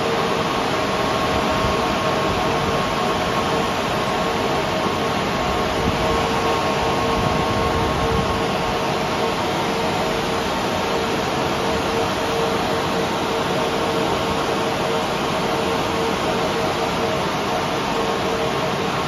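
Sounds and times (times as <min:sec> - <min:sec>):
cooling fans whirring: 0:00.0 - 0:19.0.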